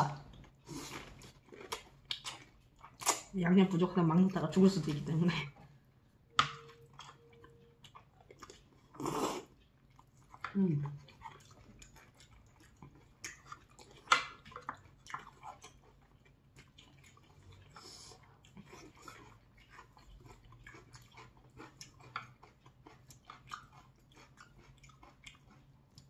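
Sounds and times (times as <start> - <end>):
wet chewing clicks and smacks: 0.3 - 3.4, 6.4 - 26.0.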